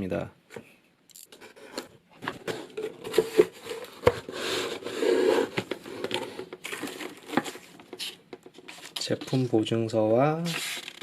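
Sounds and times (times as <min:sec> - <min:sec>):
cardboard rubbing and rustling: 0:01.4 - 0:09.7, 0:10.3 - 0:11.0.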